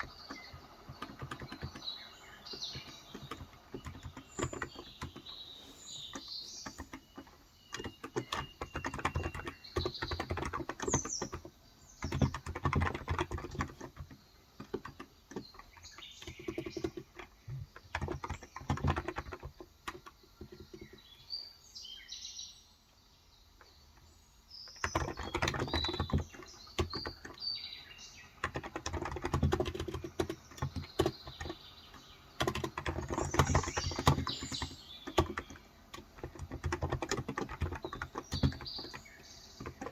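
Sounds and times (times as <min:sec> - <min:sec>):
typing on keyboard: 0:00.0 - 0:21.0, 0:24.7 - 0:27.5, 0:28.2 - 0:39.9
birds chirping: 0:00.0 - 0:39.9.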